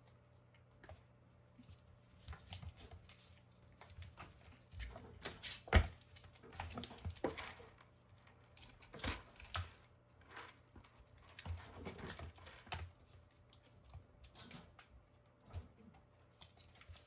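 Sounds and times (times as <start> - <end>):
kittens play-fighting in wire cage: 0.0 - 17.0.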